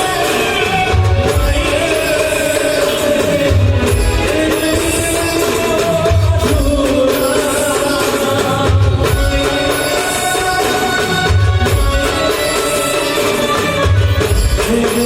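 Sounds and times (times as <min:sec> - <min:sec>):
hand percussion: 0:00.0 - 0:15.0.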